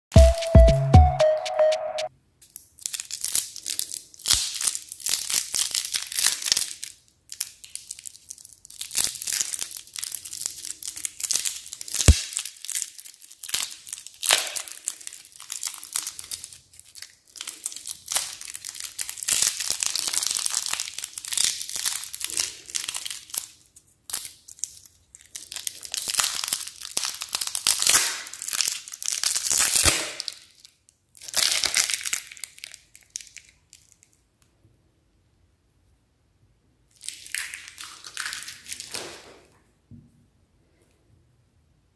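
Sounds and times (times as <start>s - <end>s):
plastic wrapper crinkling: 2.4s - 34.3s, 36.9s - 39.6s.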